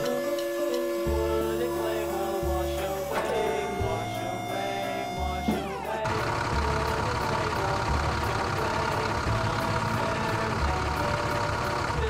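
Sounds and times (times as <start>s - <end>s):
heavy truck engine pulling away: 0.0s - 12.0s.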